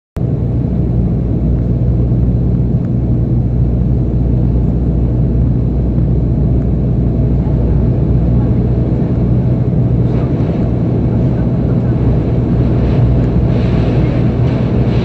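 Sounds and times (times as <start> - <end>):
airliner cabin rumble: 0.2 - 15.0.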